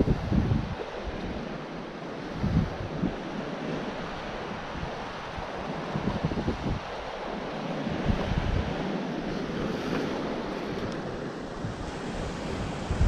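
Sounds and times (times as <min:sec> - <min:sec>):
sea waves washing on shore: 0:00.0 - 0:13.0
wind on microphone: 0:00.0 - 0:13.0.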